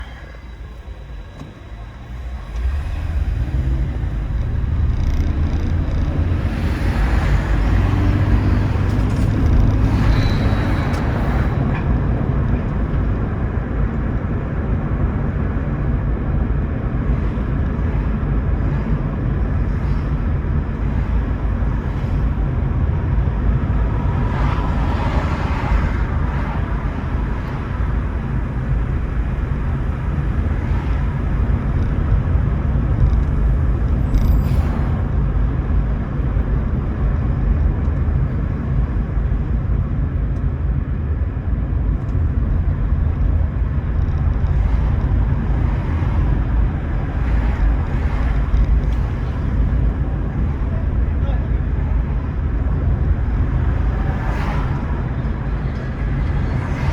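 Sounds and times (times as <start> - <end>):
car road and tyre rumble: 0.0 - 56.9.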